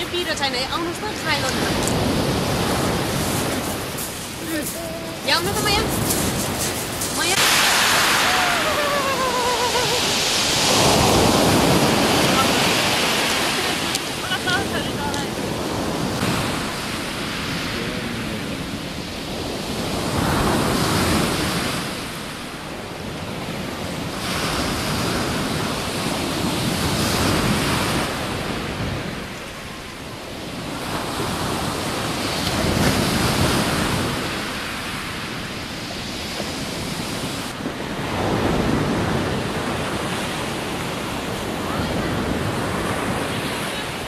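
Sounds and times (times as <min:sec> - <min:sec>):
waves breaking on shingle beach: 0:00.0 - 0:44.0.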